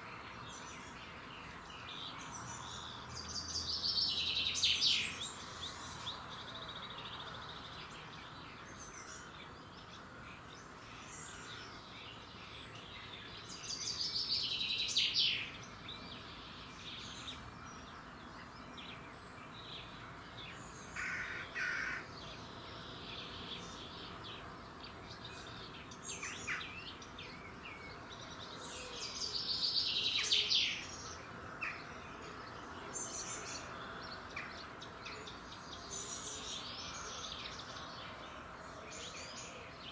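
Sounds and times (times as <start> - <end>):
rapid trilling birdsong: 0.0 - 39.9
songbirds chirping and whistling: 0.0 - 39.9.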